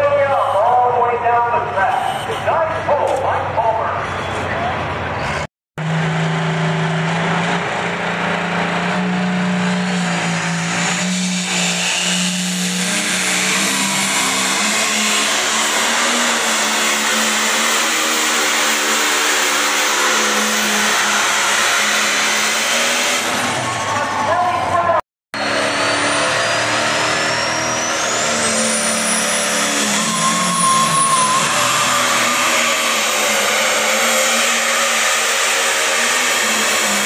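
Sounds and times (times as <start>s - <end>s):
diesel tractor engine at full power: 0.0s - 37.0s.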